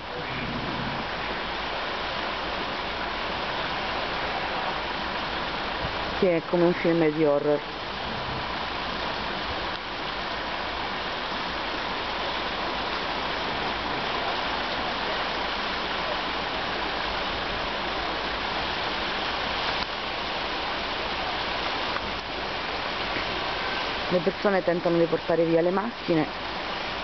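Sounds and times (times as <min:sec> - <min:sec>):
floodwater rushing down street: 0:00.0 - 0:27.0
heavy rain: 0:00.0 - 0:27.0.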